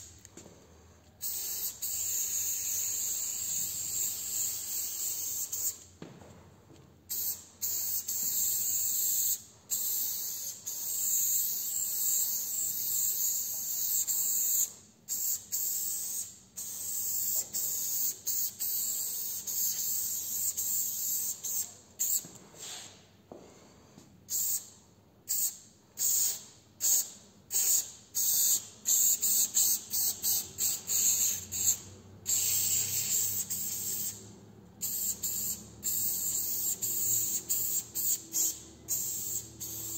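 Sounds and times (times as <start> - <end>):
spray can hissing: 1.2 - 5.9, 7.1 - 22.2, 25.3 - 34.2, 34.8 - 39.9.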